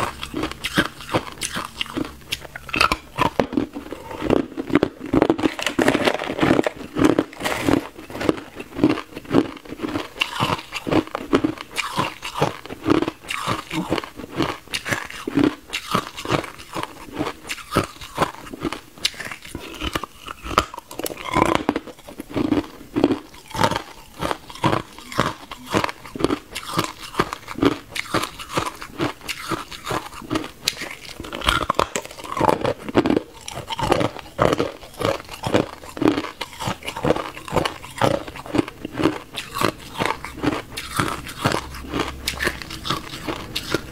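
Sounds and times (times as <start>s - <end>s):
ice crunching being chewed: 0.0s - 43.9s.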